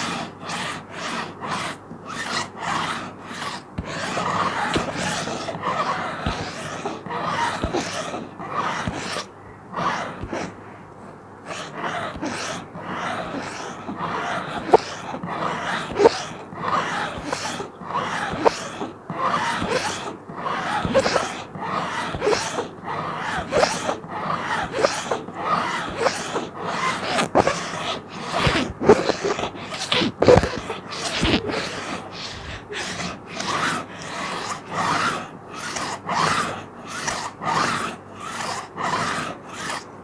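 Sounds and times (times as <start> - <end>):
fingernails scratching plastic: 0.0 - 40.0.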